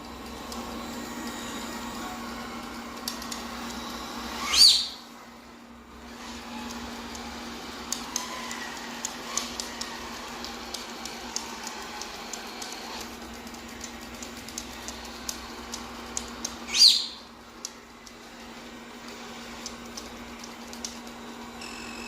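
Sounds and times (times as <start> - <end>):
robot vacuum humming: 0.0 - 22.0.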